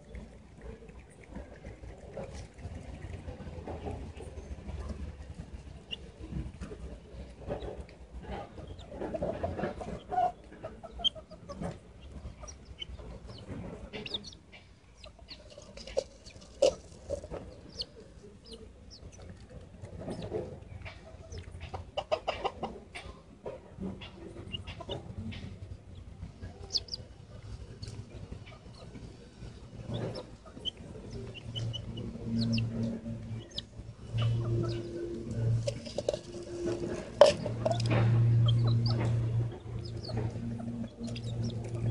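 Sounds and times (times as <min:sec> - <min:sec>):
beaks pecking: 0:00.0 - 0:21.8, 0:23.9 - 0:41.9
chickens clucking softly: 0:00.0 - 0:41.9.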